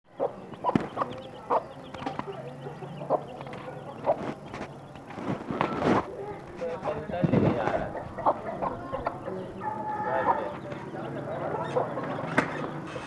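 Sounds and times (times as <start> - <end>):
hen clucking: 0.1 - 5.1, 5.7 - 13.0
chicks peeping: 0.1 - 13.0.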